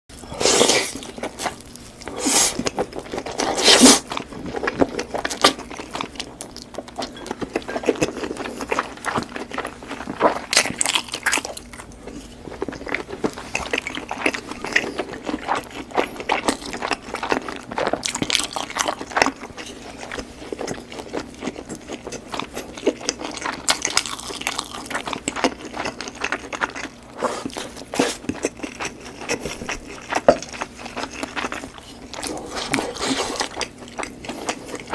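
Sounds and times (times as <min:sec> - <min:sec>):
crunching and chewing cheese snacks: 0:00.5 - 0:34.9.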